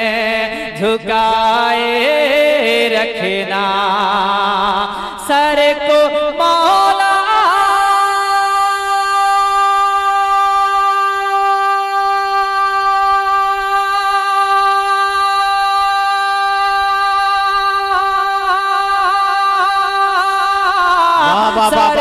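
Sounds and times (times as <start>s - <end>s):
man singing a long note: 0.0s - 22.0s.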